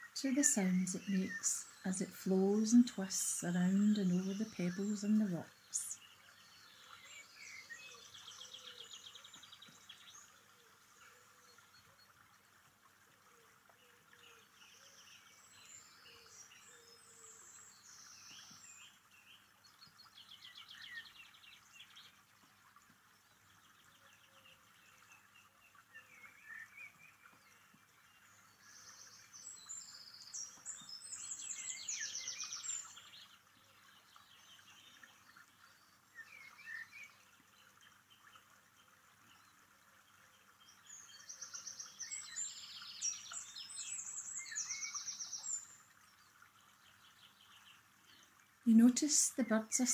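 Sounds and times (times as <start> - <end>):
faint steady hiss: 0.0 - 49.9
songbirds chirping and trilling: 0.0 - 49.9.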